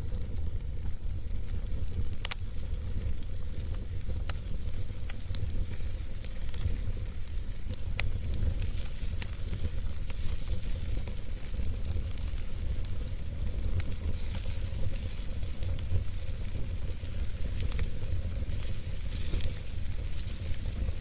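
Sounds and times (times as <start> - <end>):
fire crackles and pops: 0.0 - 21.0
wood fire rumble and hiss: 0.0 - 21.0.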